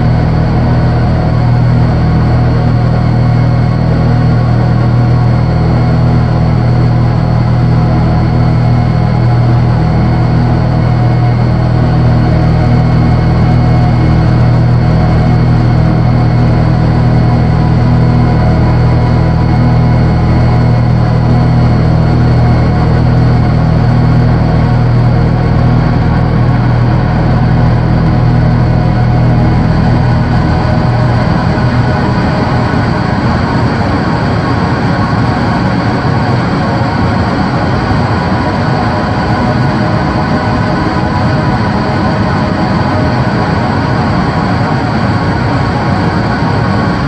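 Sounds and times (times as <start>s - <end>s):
electronic synthesizer drone: 0.0s - 47.0s.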